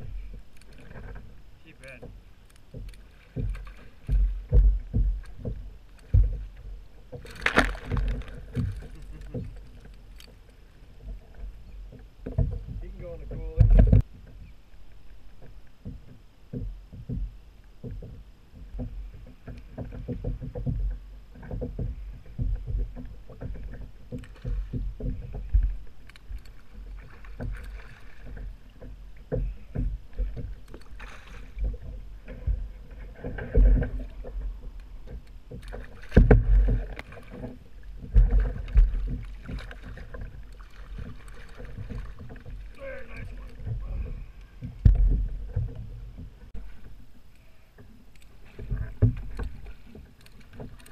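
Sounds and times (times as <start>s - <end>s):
water lapping: 0.0s - 50.9s.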